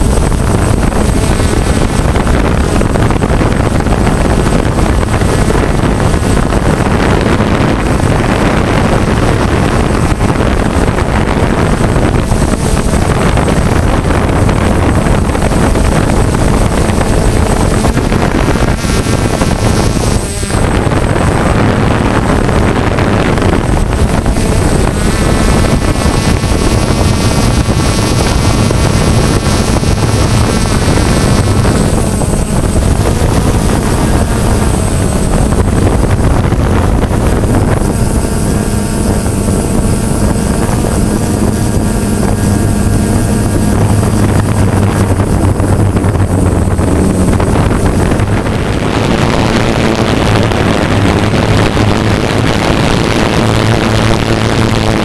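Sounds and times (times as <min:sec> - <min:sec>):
drone propellers whirring: 0:00.0 - 0:55.0
wind noise on microphone: 0:00.0 - 0:55.0.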